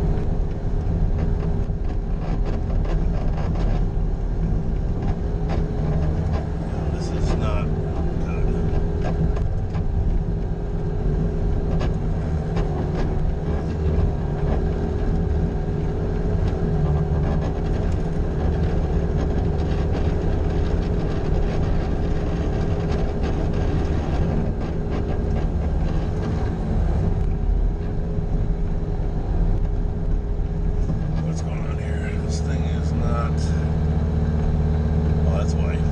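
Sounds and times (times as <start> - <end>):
diesel engine running: 0.0 - 35.9
steady whining tone: 0.0 - 35.9.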